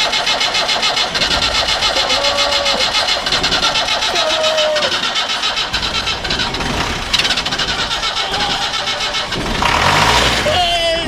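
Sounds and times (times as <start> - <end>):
diesel engine cranking on starter: 0.0 - 11.0.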